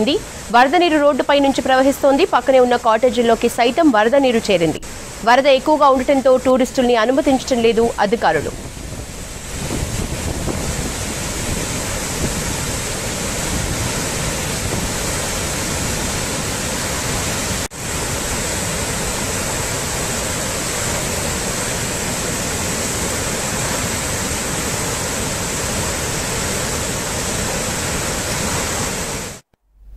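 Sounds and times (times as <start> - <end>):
floodwater rushing: 0.0 - 29.4.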